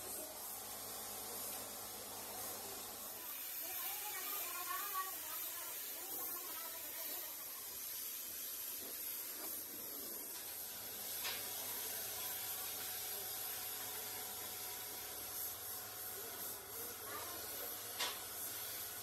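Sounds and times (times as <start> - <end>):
paint spray gun hissing: 0.0 - 19.0.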